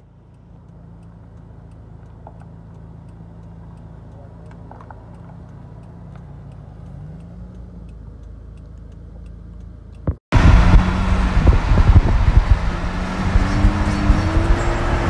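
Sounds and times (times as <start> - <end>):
car engine running: 0.0 - 15.0
wind and road noise: 0.0 - 15.0.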